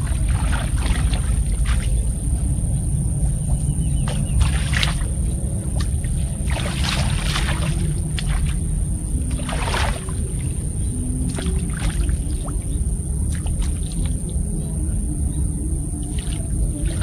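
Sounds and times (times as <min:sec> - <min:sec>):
steady low rumble: 0:00.0 - 0:17.0
water splashing and sloshing: 0:00.0 - 0:17.0.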